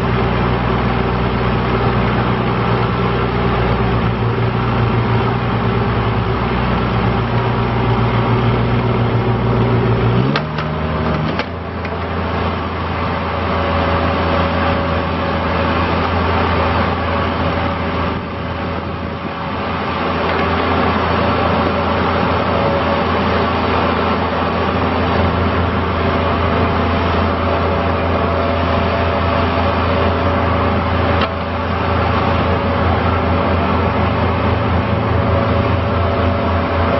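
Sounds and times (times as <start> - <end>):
loader engine running: 0.0 - 36.9.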